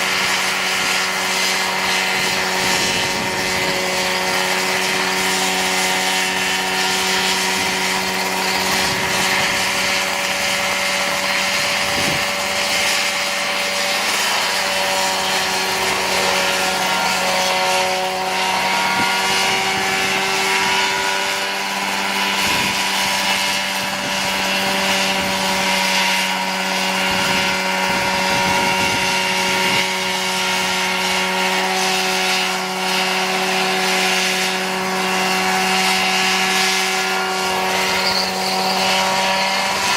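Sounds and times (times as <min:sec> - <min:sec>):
helicopter engine running: 0:00.0 - 0:39.9.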